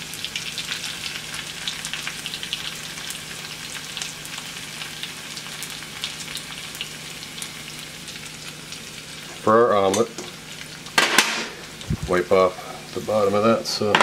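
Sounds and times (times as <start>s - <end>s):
hot fat sizzling and crackling: 0.0s - 14.0s.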